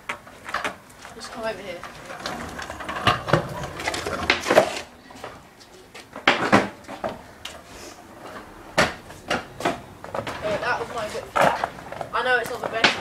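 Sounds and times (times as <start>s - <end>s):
scooter clattering on concrete: 0.0s - 7.6s, 8.2s - 13.0s.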